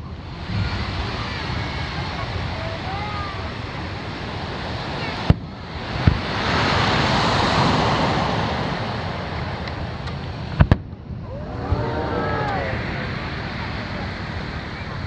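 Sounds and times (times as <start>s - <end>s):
surf rushing: 0.0s - 15.0s
wind noise: 0.0s - 15.0s.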